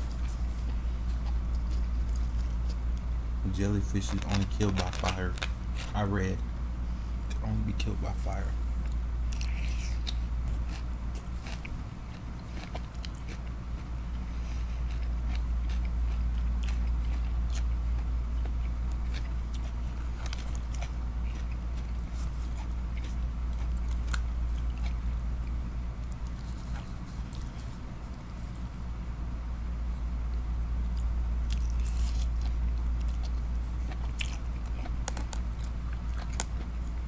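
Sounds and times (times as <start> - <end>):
chewing and biting food: 0.0 - 3.1, 3.9 - 6.1, 8.8 - 28.7, 30.3 - 37.0
steady low hum: 0.0 - 37.0.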